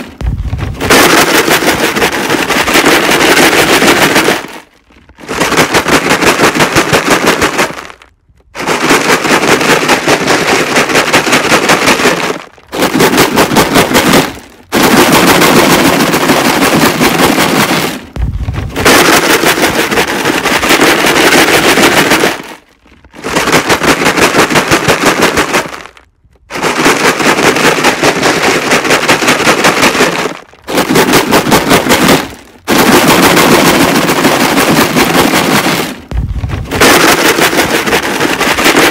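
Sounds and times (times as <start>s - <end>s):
rocks rattling in plastic jug: 0.0s - 38.9s.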